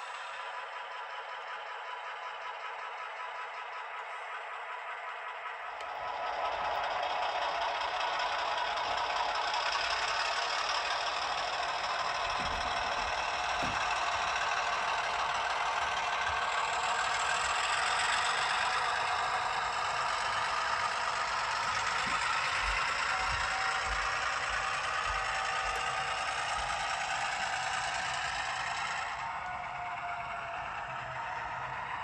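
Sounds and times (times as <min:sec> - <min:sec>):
model diesel engine running: 0:00.0 - 0:32.0.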